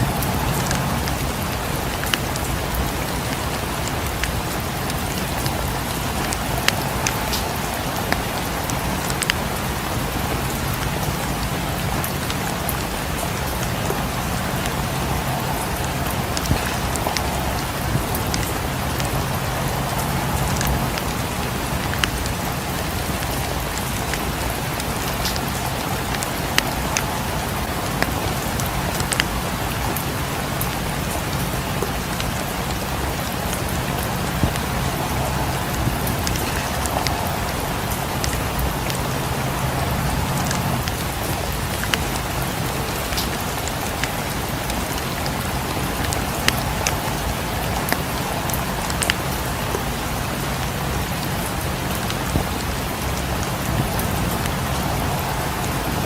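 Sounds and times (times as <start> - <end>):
rain against windows: 0.0 - 56.0
wood fire crackling: 0.0 - 56.0.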